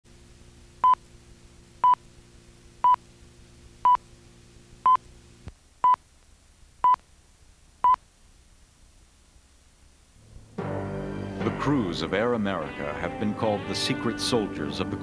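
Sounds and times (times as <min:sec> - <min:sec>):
low electrical hum: 0:00.1 - 0:15.0.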